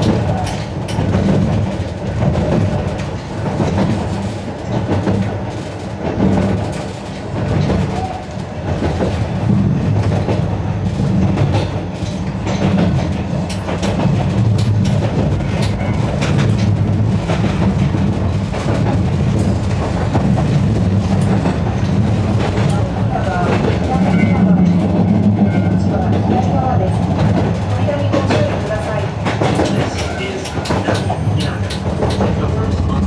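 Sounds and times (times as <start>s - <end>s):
electric train rumbling: 0.0s - 33.0s
wheels clacking over rail joints: 0.0s - 33.0s.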